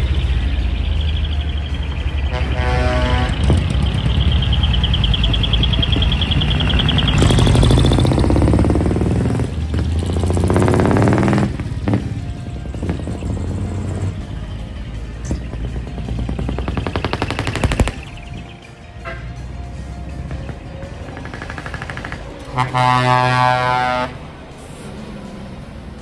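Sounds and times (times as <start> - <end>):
diesel truck engines revving: 0.0 - 26.0.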